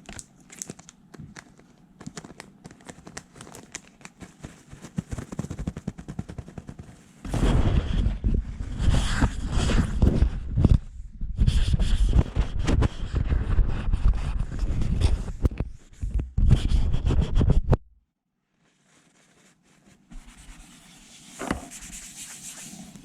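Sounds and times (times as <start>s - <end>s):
scratchy rubbing against microphone: 2.9s - 17.7s, 18.6s - 23.0s.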